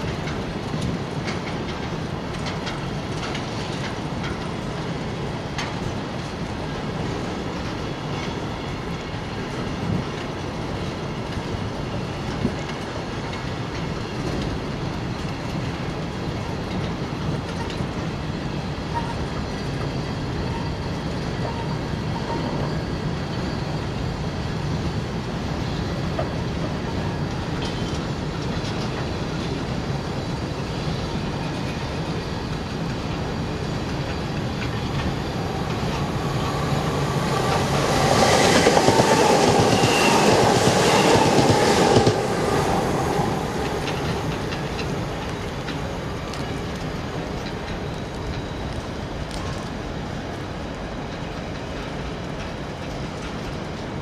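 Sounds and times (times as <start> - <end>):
freight train rolling on rails: 0.0 - 54.0.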